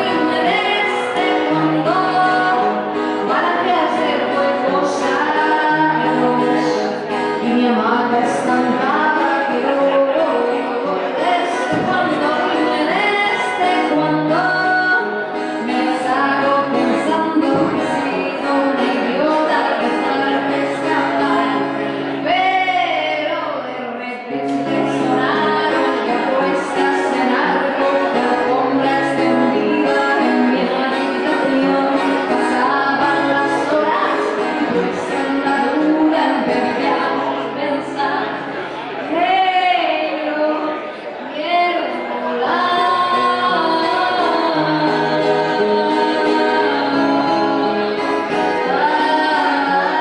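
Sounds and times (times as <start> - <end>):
acoustic guitar: 0.0 - 50.0
woman singing: 0.0 - 50.0.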